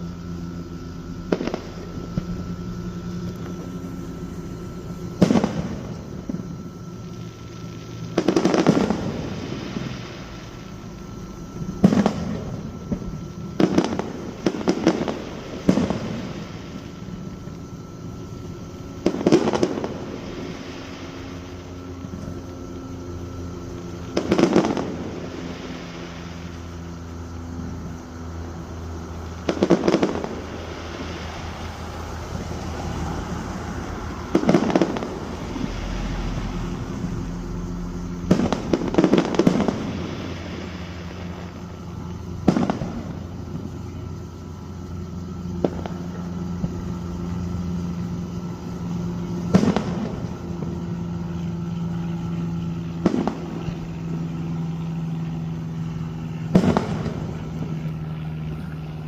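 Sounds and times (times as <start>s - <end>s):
fireworks bursting: 0.0s - 11.0s, 11.6s - 59.0s.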